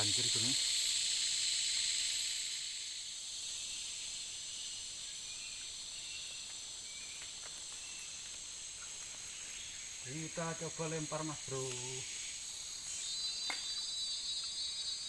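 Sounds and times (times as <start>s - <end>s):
insects buzzing shrilly: 0.0s - 15.0s.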